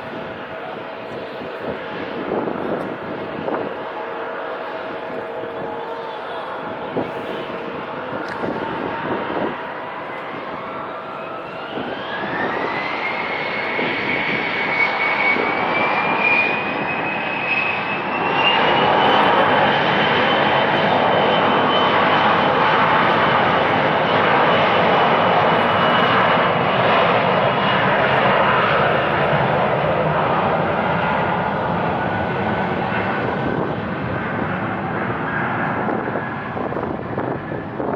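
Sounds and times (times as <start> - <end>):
jet engine roar: 0.0 - 37.9
jet engines whining: 0.0 - 37.9.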